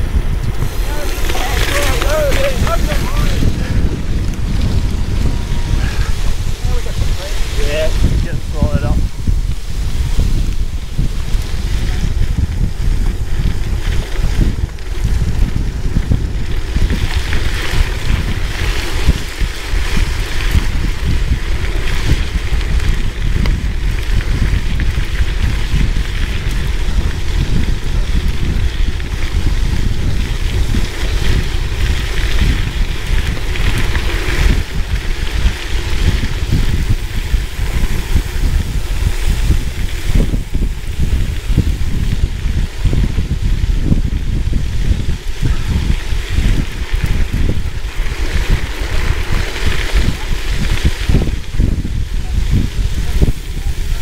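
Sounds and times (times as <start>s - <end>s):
bike tyres rolling on gravel: 0.0s - 54.0s
wind buffeting microphone: 0.0s - 54.0s.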